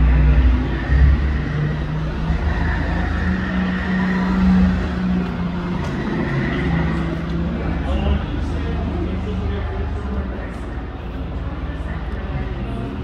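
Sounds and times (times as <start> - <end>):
go-kart motors droning: 0.0 - 13.0.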